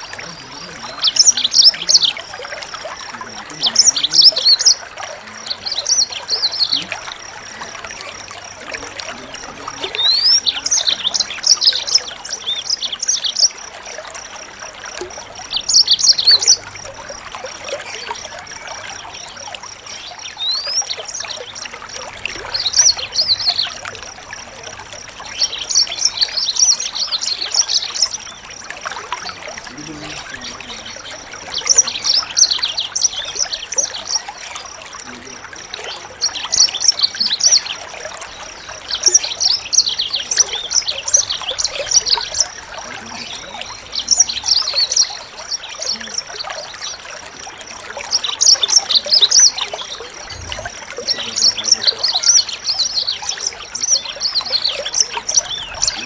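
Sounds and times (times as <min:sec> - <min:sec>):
songbird twittering: 0:00.0 - 0:56.0
water trickling: 0:00.0 - 0:56.0.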